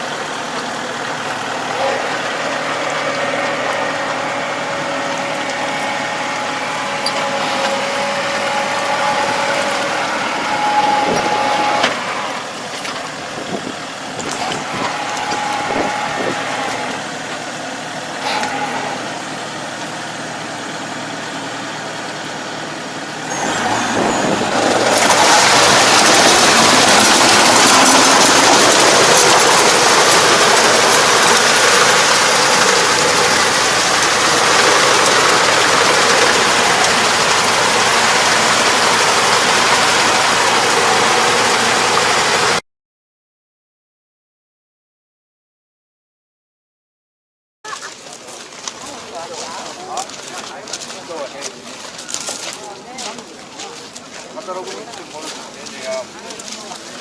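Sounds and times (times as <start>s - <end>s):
farm machinery engine running: 0.0s - 42.6s, 47.7s - 57.0s.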